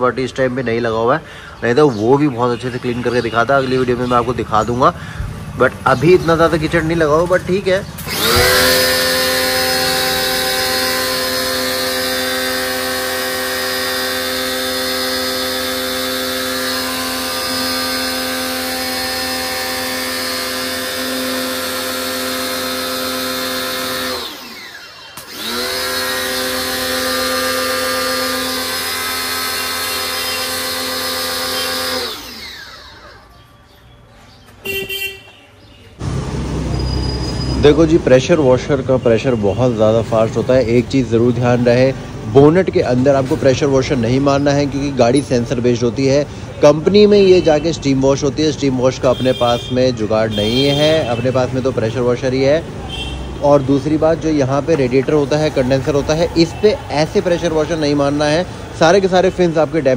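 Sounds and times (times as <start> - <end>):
pressure washer motor whining: 2.4 - 33.8, 36.0 - 59.9.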